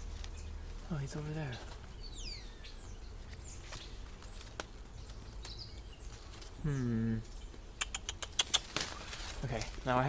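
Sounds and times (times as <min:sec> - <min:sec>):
small bird calling: 0:00.0 - 0:10.0.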